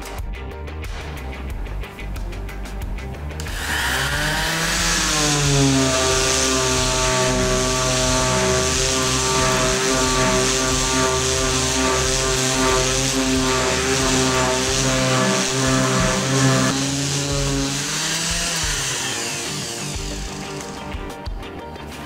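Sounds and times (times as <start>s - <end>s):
orbital sander on wood: 3.4s - 21.2s.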